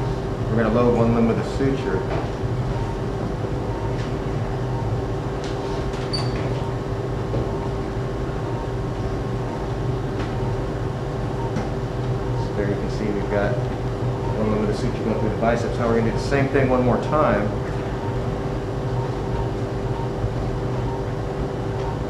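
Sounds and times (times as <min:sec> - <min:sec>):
equipment hum and rumble: 0:00.0 - 0:22.0.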